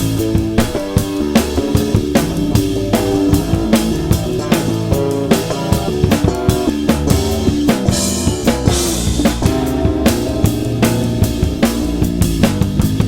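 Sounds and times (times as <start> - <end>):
bass line: 0.0 - 13.0
kick and snare drums: 0.0 - 13.0.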